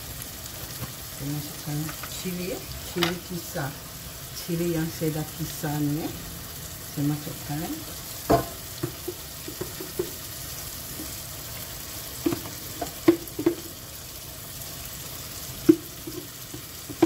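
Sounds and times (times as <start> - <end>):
chicken and onions sizzling: 0.0 - 17.0.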